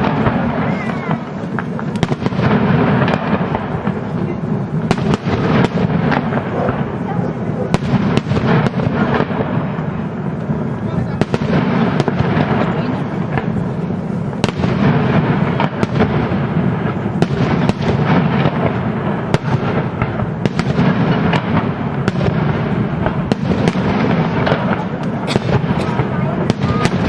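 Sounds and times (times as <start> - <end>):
fireworks cracks and bangs: 0.0 - 27.0.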